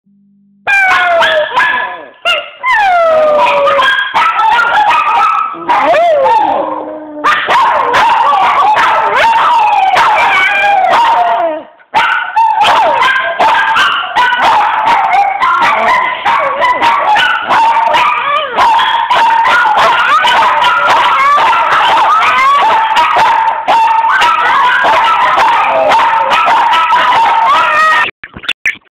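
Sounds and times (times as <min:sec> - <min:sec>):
small dog howling and yipping: 0:00.7 - 0:28.1.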